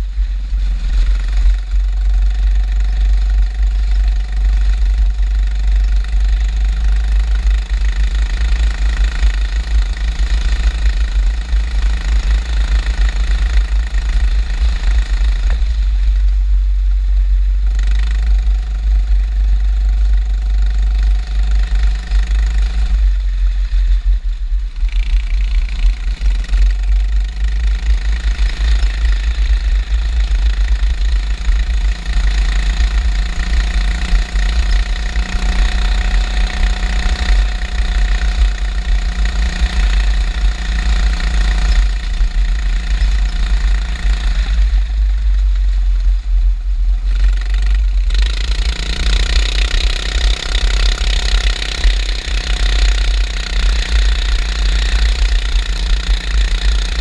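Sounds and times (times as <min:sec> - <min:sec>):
low rumble: 0:00.0 - 0:57.0
race car engine running hard: 0:00.0 - 0:57.0.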